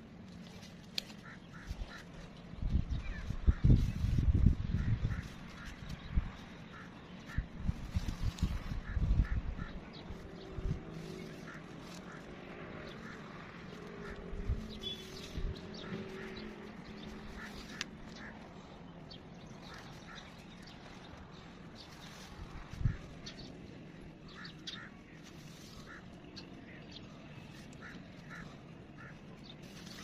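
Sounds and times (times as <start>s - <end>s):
bird calls: 0.5s - 30.0s.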